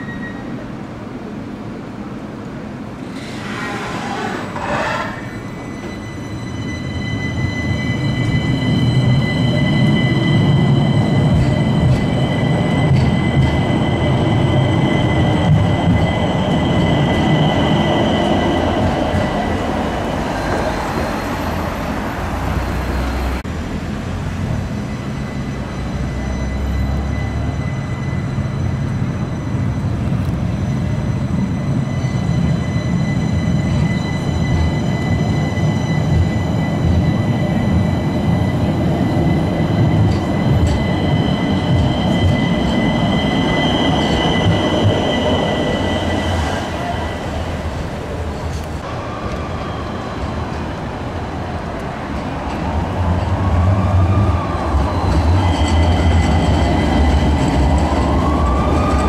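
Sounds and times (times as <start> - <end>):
high-pitched tram whine: 0.0 - 1.2, 2.8 - 59.0
tram rolling and motor noise: 0.0 - 59.0.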